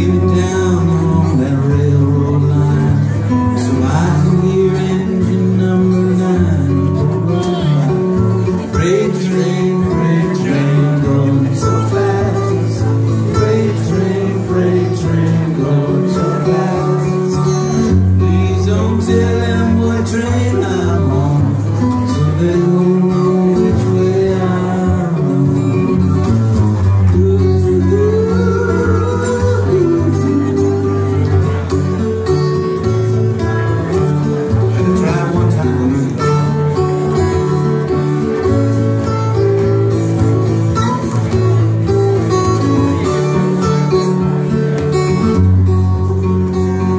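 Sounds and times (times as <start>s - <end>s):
live band instrumental music: 0.0s - 46.9s
picked acoustic guitar: 0.0s - 46.9s.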